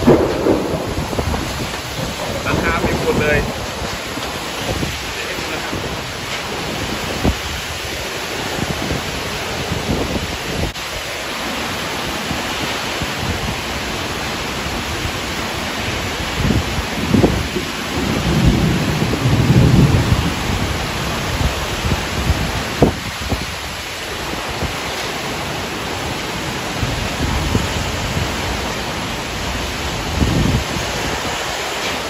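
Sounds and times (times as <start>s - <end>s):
low thunder rumble: 0.0s - 10.8s, 12.2s - 32.0s
heavy rain: 0.0s - 32.0s
strong wind: 0.0s - 32.0s.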